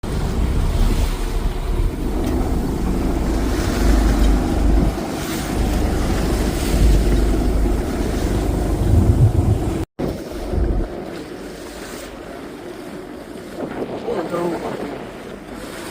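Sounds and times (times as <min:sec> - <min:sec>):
low fluctuating boat rumble: 0:00.0 - 0:15.9
rushing water: 0:00.0 - 0:15.9
wind buffeting microphone: 0:00.0 - 0:15.9.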